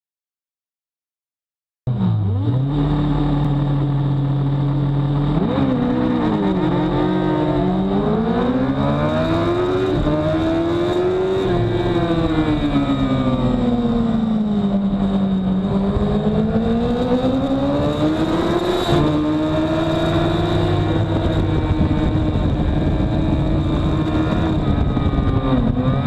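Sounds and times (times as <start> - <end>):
motorcycle engine accelerating: 1.9 - 26.0
wind rush on camera: 2.8 - 26.0.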